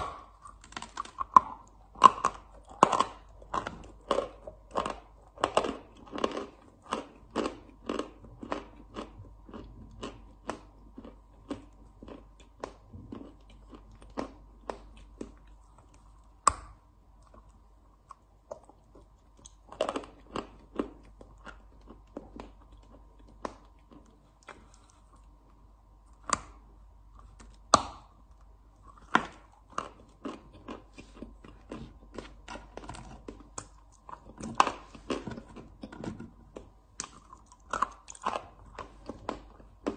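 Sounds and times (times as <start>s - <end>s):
chalk crunching while chewed: 0.0s - 16.4s, 17.2s - 25.4s, 28.8s - 39.9s.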